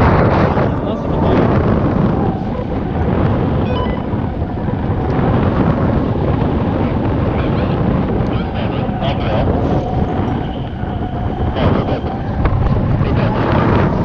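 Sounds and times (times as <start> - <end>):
heavy wind on microphone: 0.0 - 14.0.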